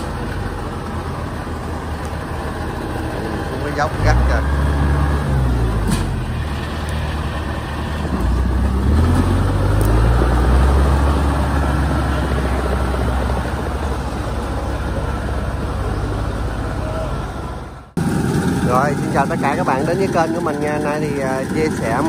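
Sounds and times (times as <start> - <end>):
tracked vehicle engine revving: 0.0 - 22.0.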